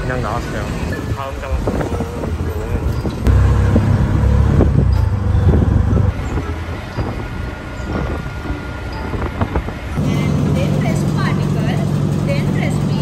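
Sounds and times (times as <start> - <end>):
auto-rickshaw engine rumble: 0.0 - 13.0.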